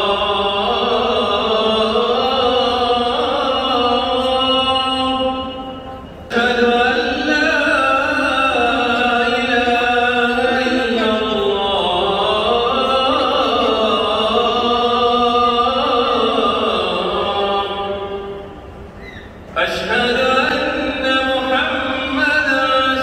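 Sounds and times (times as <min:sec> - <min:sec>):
person chanting: 0:00.0 - 0:18.5, 0:19.6 - 0:23.0.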